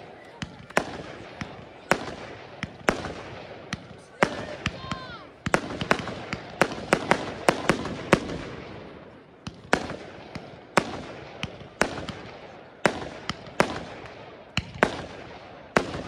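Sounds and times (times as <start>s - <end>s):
fireworks bangs with echo: 0.0s - 16.0s.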